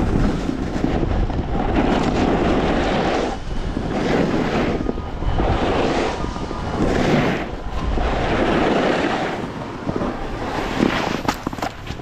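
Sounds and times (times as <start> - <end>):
snowboard scraping on snow: 0.0 - 12.0
wind rumbling on microphone: 0.0 - 12.0.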